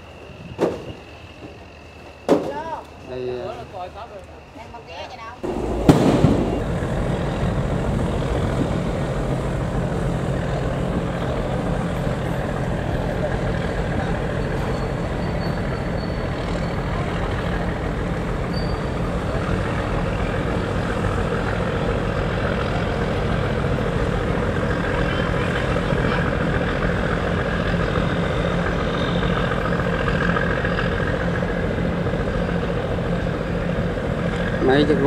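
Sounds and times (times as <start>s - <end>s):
boat diesel engine running: 5.4s - 35.0s.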